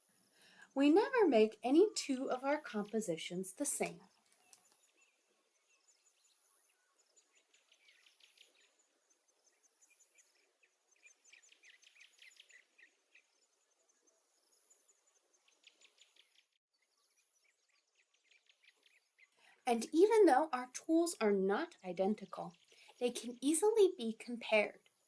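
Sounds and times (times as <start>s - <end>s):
faint bird chirping: 0.0s - 19.8s, 20.5s - 25.0s.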